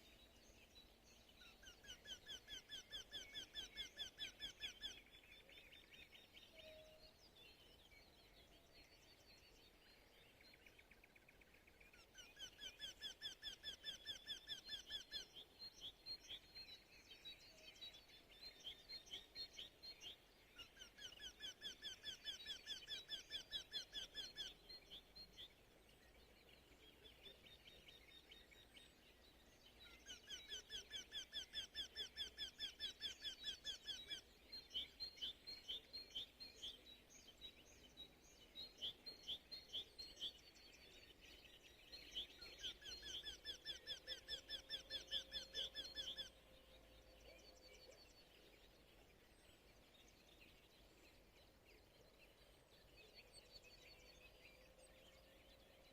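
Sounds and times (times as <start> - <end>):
faint background hiss: 0.0 - 55.9.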